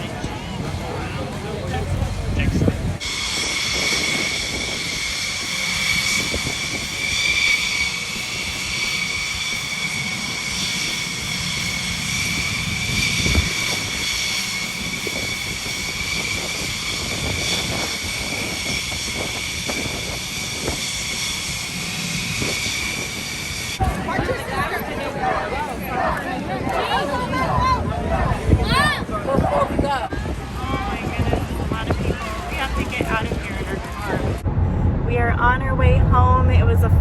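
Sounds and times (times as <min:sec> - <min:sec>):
jet engine turbine whine: 0:00.0 - 0:37.0.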